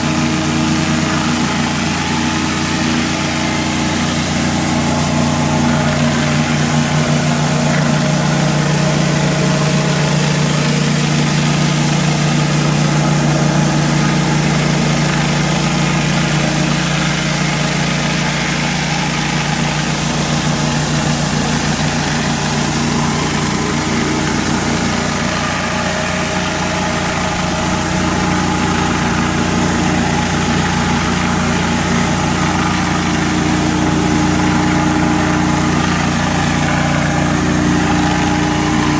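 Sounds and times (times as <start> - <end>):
high-pressure water spray hiss: 0.0 - 38.9
pressure washer engine running: 0.0 - 38.9.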